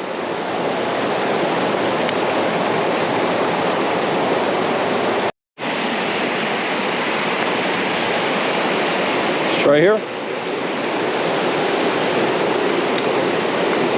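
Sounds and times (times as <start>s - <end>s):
creek water rushing: 0.0s - 13.9s.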